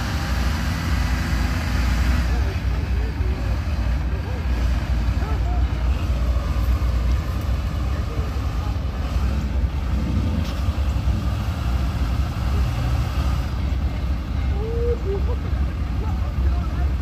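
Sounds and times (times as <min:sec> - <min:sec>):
truck engine rumbling: 0:00.0 - 0:17.0
truck wading through muddy water: 0:00.0 - 0:17.0.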